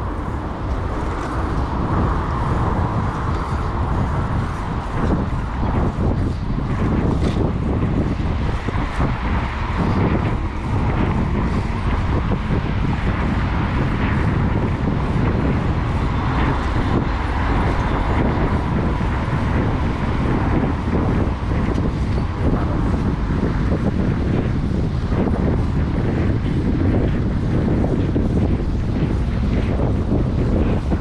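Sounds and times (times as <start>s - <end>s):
road traffic: 0.0s - 31.0s
wind rumble on microphone: 0.0s - 31.0s.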